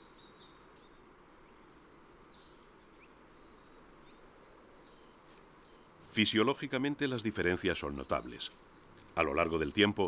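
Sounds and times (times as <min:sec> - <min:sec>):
outdoor hiss: 0:00.0 - 0:10.0.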